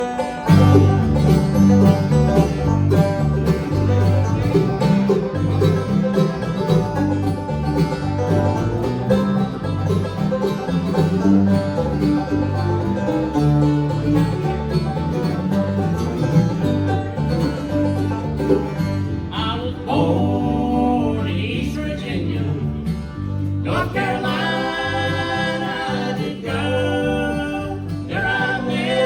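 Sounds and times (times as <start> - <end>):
alternating bass line: 0.0 - 29.0
banjo picking: 0.0 - 29.0
guitar picking: 0.0 - 29.0.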